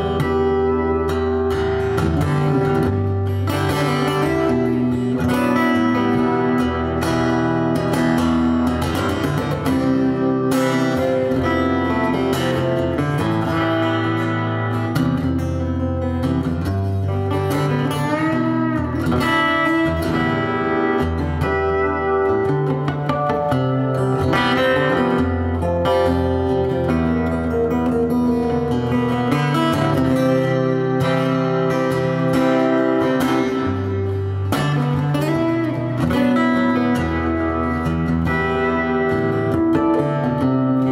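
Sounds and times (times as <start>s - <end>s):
acoustic guitar strummed chords: 0.0s - 40.9s.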